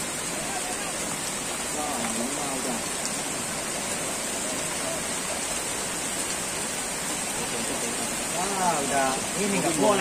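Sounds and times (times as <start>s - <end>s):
steady rain on grass: 0.0s - 10.0s.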